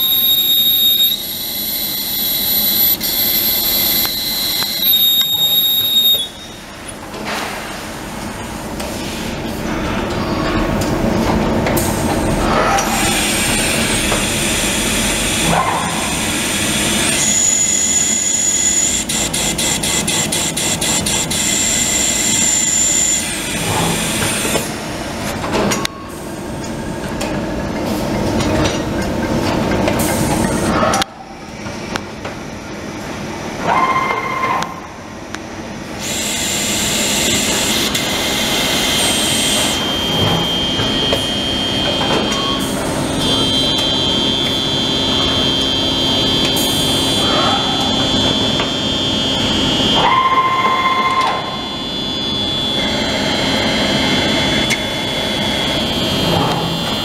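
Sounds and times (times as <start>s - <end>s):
high machine whines: 0.0s - 7.0s, 11.7s - 27.7s, 32.5s - 57.0s.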